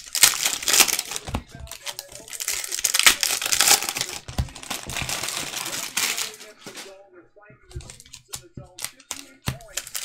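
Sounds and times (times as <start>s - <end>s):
foil wrappers crinkling and tearing: 0.0s - 7.0s, 7.8s - 10.0s.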